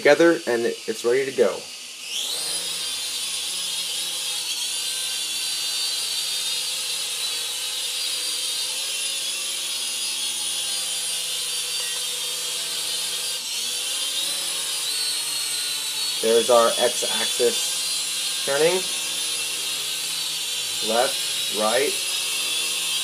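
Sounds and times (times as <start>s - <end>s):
toy quadcopter whining: 0.0s - 23.0s.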